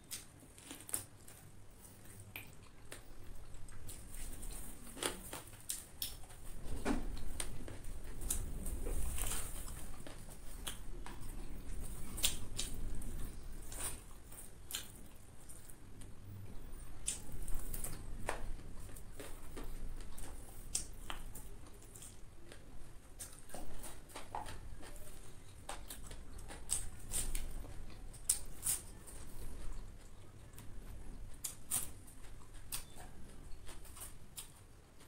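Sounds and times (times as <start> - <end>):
person chewing with lips smacking: 0.0 - 35.0.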